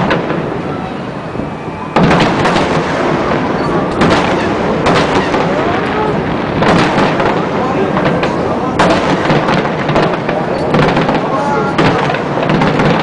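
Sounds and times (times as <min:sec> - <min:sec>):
continuous loud rumble: 0:00.0 - 0:13.0
fireworks bursting: 0:00.0 - 0:13.0.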